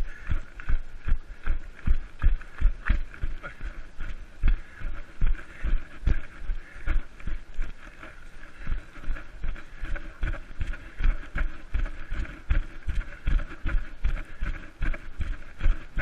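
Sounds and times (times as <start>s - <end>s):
panting-like breathing: 1.4s - 16.0s.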